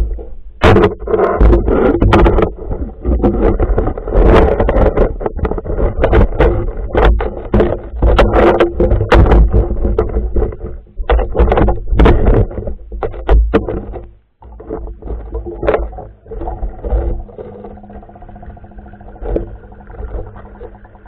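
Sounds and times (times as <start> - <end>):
low rumble of water: 0.0 - 21.0
underwater knocks and clatter: 0.0 - 21.0.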